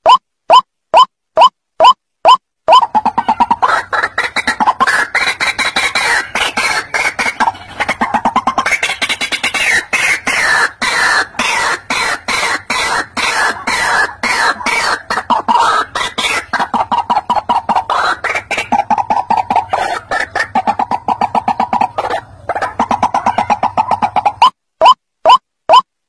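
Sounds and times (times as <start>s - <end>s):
waterhen croaking calls: 0.0s - 25.9s.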